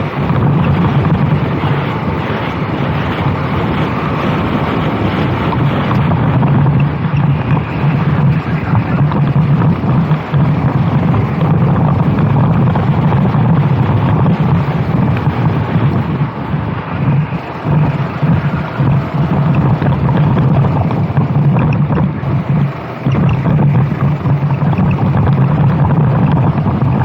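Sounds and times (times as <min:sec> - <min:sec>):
kart engine running hard: 0:00.0 - 0:27.0
wind buffeting microphone: 0:00.0 - 0:27.0.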